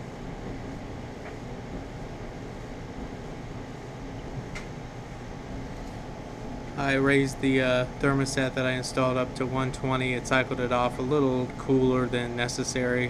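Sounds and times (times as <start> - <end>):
clothes dryer humming: 0.0 - 13.0.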